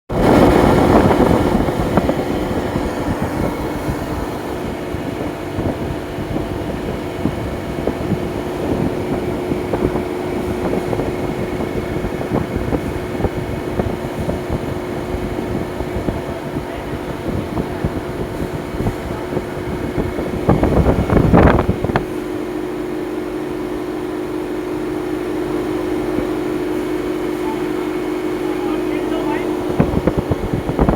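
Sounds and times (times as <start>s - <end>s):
refrigeration compressor running: 0.1s - 30.9s.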